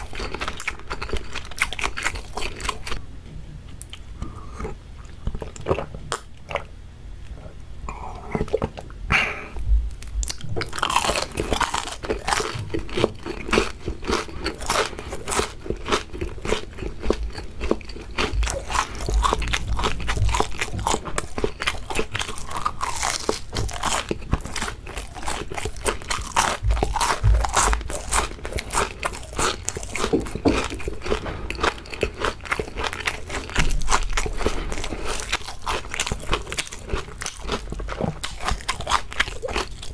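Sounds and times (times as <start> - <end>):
crunching and chewing food: 0.0 - 3.0, 3.7 - 39.9.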